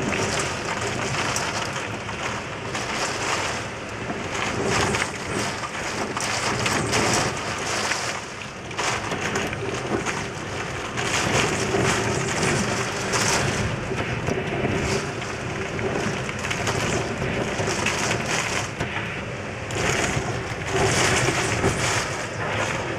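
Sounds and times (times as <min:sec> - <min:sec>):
rain rushing: 0:00.0 - 0:22.9
wind gusts: 0:00.0 - 0:22.9.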